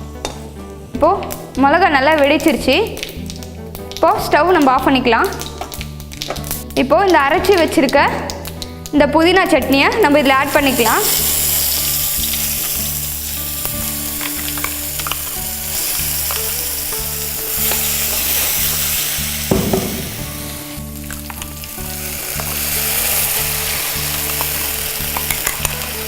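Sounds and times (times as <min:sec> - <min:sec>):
chutney sizzling in hot oil: 0:00.0 - 0:26.0.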